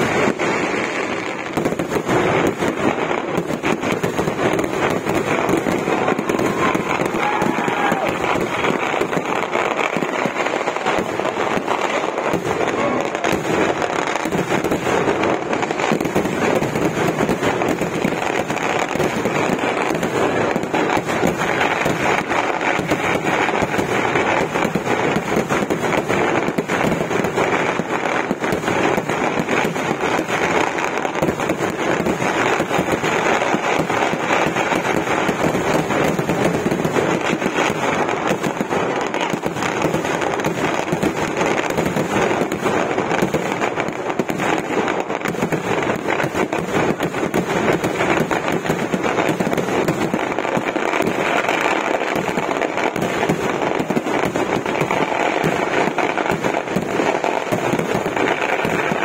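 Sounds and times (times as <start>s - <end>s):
fireworks exploding in a barrage: 0.0s - 59.0s.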